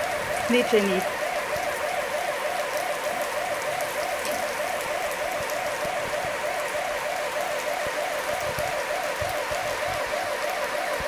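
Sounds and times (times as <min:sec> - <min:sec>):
rain hissing on paving: 0:00.0 - 0:11.0.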